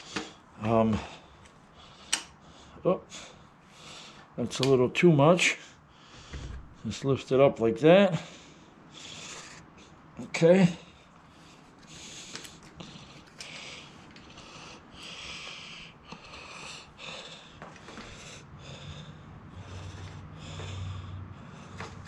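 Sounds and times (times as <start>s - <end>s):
heavy breathing through nose: 0.0s - 4.4s, 5.5s - 6.8s, 8.1s - 22.0s.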